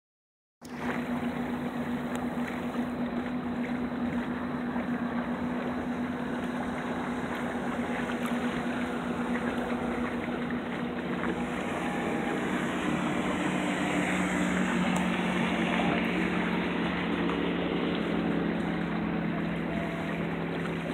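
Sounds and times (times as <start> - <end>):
boat motor running: 0.6 - 20.9
water noise: 0.6 - 20.9
wind: 0.6 - 20.9.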